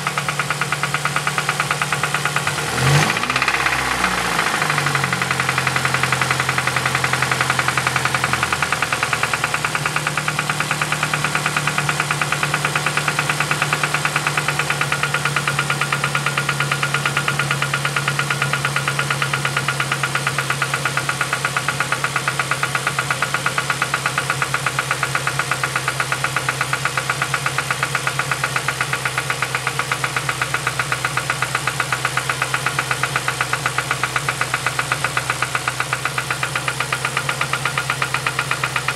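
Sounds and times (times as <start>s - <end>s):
car engine idling: 0.0s - 38.9s
rapid regular engine knock: 0.0s - 38.9s.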